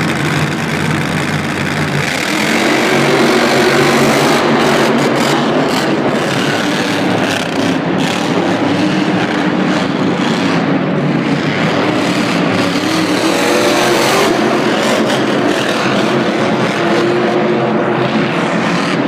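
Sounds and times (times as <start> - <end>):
monster truck engine running: 0.0 - 19.0.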